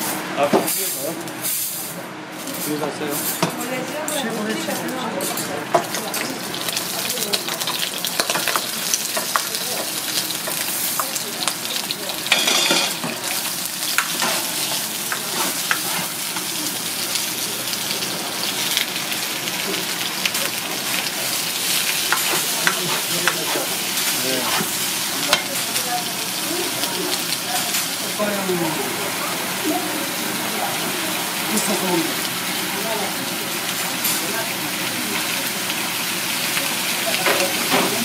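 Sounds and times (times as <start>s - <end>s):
vegetables sizzling in hot oil: 3.6s - 38.0s.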